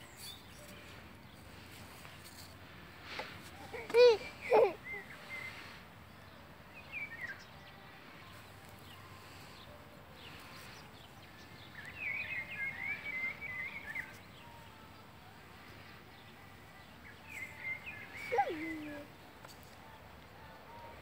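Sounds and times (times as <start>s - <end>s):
songbird chirping and warbling: 0.0s - 21.0s.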